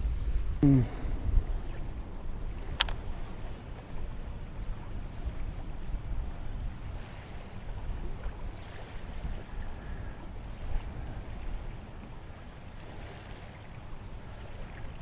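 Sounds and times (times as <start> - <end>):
water noise: 0.0 - 15.0
wind buffeting microphone: 0.0 - 15.0.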